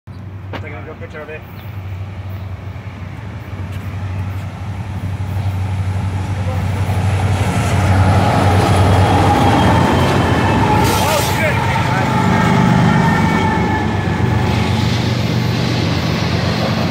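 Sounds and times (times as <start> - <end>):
diesel locomotives passing: 0.2 - 16.9.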